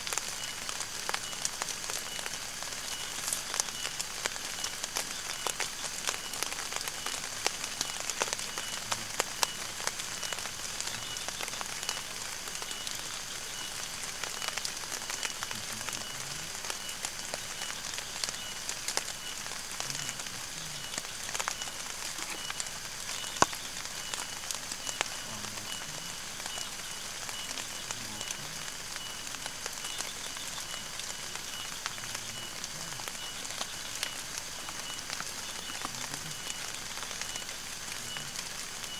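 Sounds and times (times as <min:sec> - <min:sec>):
faint pulsing insect call: 0:00.0 - 0:38.9
rain drops tapping: 0:00.0 - 0:38.9.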